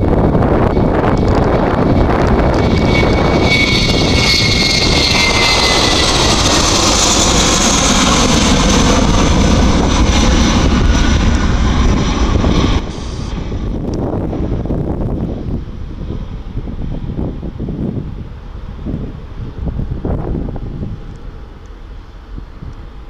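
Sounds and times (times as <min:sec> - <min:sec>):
jet engines rushing and whining: 0:00.0 - 0:23.0.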